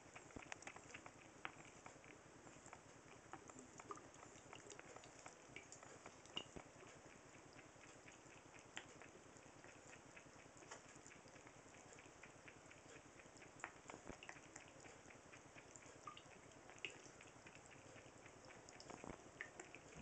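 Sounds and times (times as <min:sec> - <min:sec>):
cat lapping water: 0:00.0 - 0:20.0.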